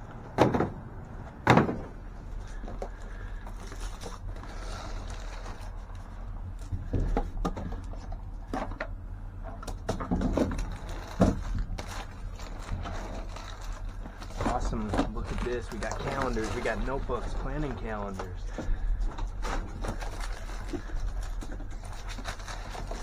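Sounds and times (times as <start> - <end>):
rummaging through boxes: 0.0 - 23.0.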